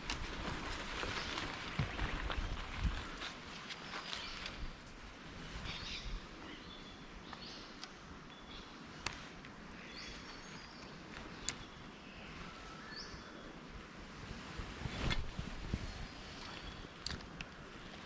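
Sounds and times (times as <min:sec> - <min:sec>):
faint outdoor background noise: 0:00.0 - 0:18.0.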